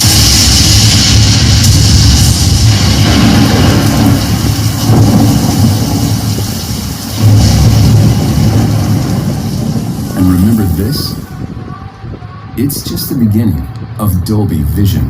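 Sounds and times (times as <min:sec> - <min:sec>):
bass-heavy cinematic rumble: 0:00.0 - 0:14.2.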